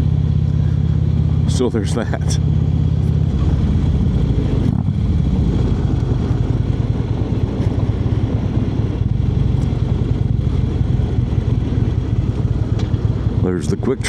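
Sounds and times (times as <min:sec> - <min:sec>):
motorcycle engine cruising: 0:00.0 - 0:14.0
rushing wind: 0:00.0 - 0:14.0.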